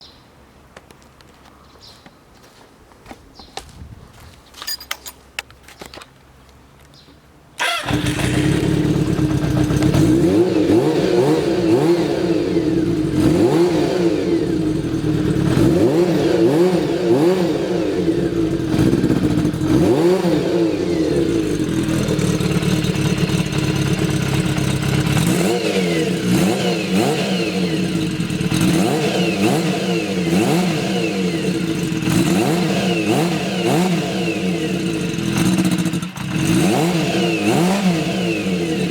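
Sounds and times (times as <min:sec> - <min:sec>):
motorcycle engine starting and revving: 0:07.6 - 0:38.9.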